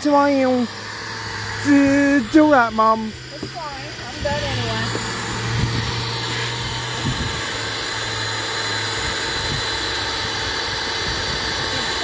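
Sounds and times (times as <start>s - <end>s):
shop vacuum running: 0.0s - 12.0s.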